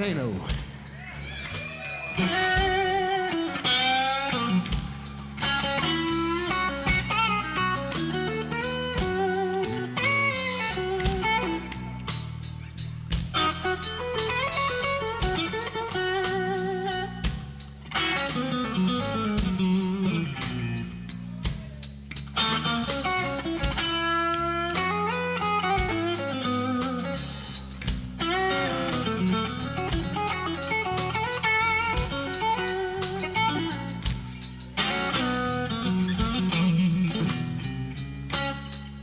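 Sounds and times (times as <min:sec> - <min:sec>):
bass: 0:00.0 - 0:39.0
drums: 0:00.0 - 0:39.0
electric guitar bending notes: 0:00.0 - 0:39.0.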